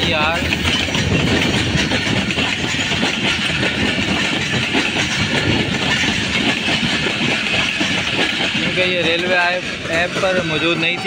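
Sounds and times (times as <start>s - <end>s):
train wheels running on track: 0.0s - 11.0s.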